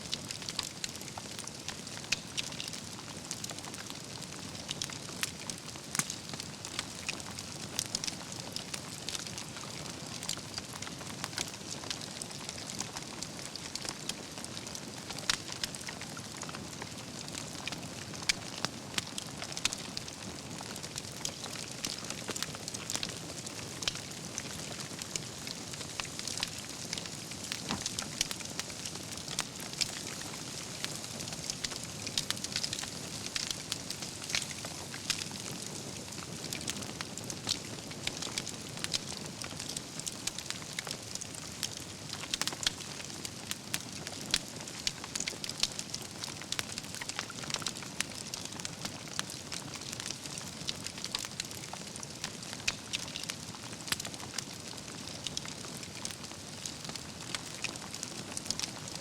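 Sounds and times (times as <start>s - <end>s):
campfire crackling and hissing: 0.0s - 59.0s.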